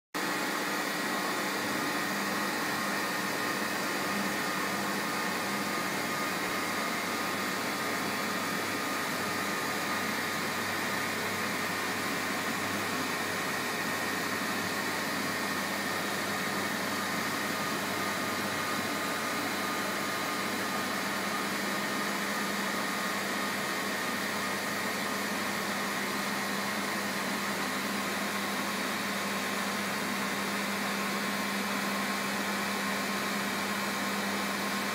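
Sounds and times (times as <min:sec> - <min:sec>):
milling machine humming and whining: 0:00.2 - 0:34.9.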